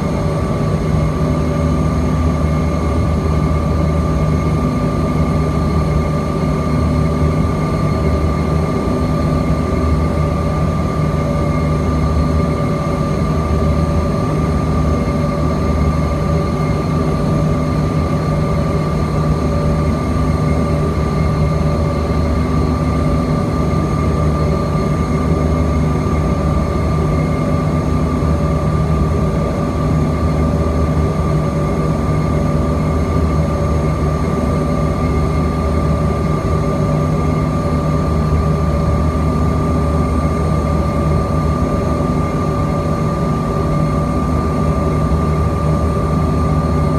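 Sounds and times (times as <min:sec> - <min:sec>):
jet engine whine: 0:00.0 - 0:46.9.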